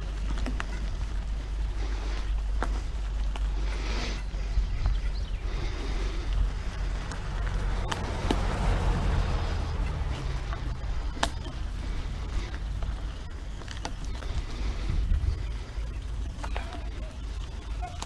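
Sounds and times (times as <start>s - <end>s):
bike clicks and rattles: 0.0s - 18.0s
tyre noise on dirt: 0.0s - 18.0s
wind rumble on microphone: 0.0s - 18.0s.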